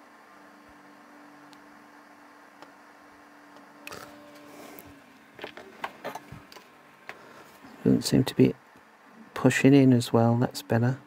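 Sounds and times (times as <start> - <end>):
faint steady hum: 0.0 - 11.0
soldering iron hiss: 0.0 - 11.0.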